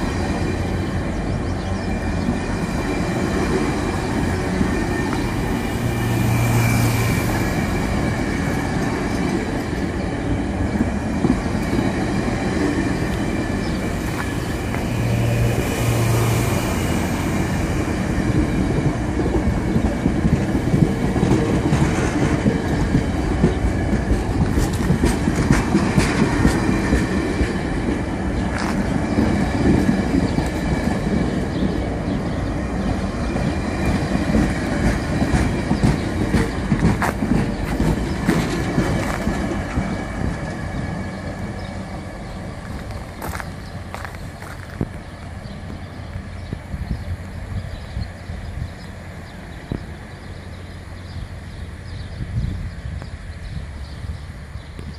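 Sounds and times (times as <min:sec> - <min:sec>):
passenger train rolling past: 0:00.0 - 0:54.9
train wheels clicking over rail joints: 0:00.1 - 0:15.2, 0:15.9 - 0:31.7, 0:32.8 - 0:47.1.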